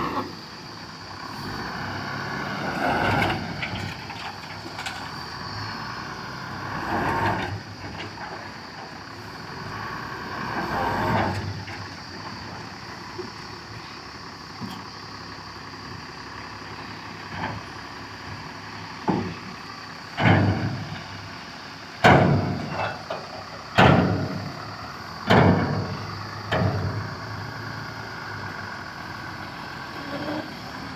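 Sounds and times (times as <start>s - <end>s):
heavy diesel machinery running: 0.0s - 30.9s.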